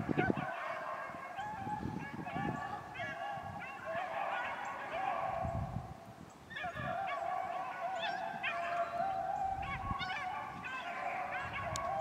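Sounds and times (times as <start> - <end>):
dogs baying: 0.0 - 5.8, 6.5 - 12.0.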